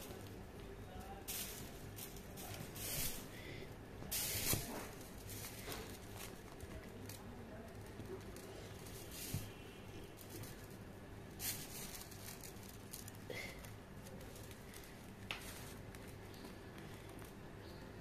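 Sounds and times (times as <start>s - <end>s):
kittens rustling and scratching straws: 0.0s - 18.0s
low steady hum: 0.0s - 18.0s.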